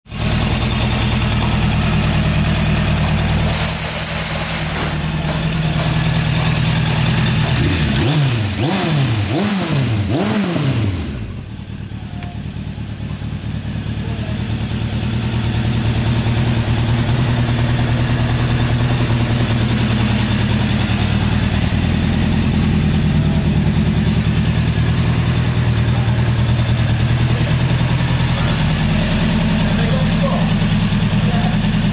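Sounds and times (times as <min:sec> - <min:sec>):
motorcycle engine idling: 0:00.1 - 0:31.9.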